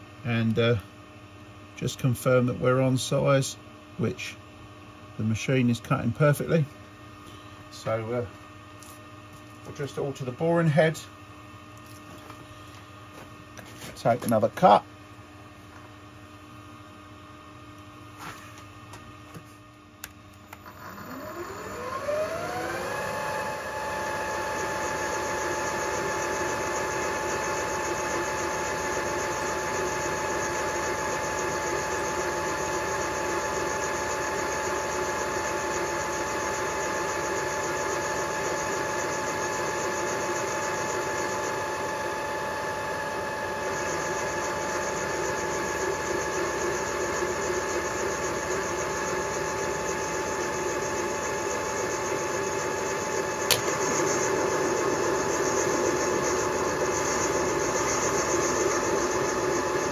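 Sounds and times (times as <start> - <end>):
milling machine spindle whine: 0.1 - 6.8, 7.6 - 14.9, 20.4 - 59.9.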